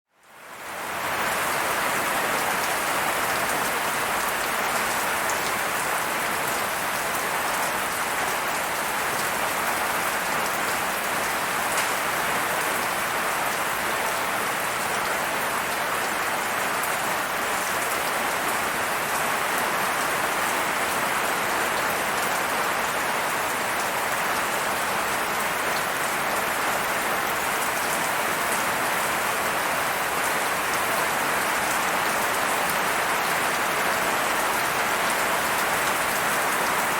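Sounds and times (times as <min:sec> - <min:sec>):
steady rain falling: 0:00.1 - 0:36.9.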